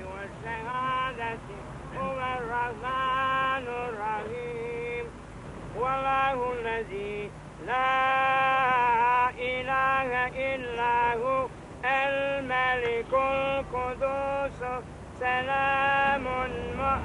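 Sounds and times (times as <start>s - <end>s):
man chanting religious recitation: 0.0s - 17.0s.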